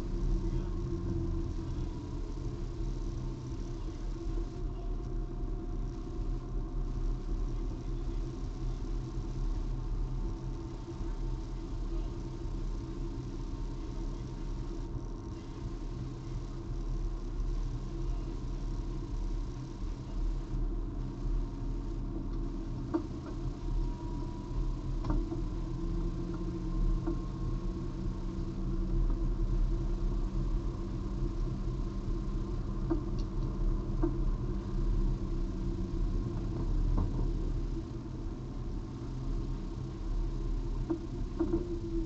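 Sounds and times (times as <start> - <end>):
car engine at low revs: 0.0 - 42.0.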